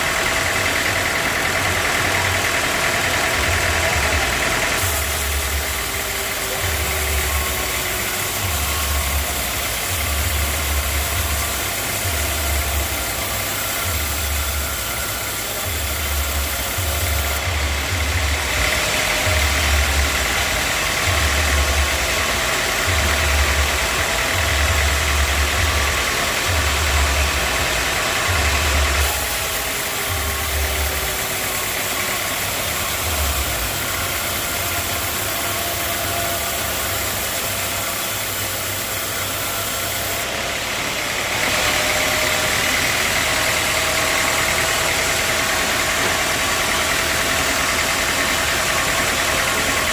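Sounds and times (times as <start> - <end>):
sawmill machinery pulsing: 0.0 - 49.9.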